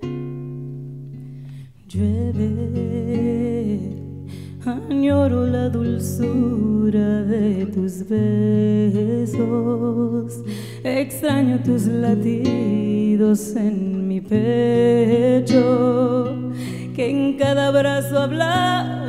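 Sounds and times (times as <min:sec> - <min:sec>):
classical guitar: 0:00.0 - 0:19.0
woman singing with vibrato: 0:01.9 - 0:19.0.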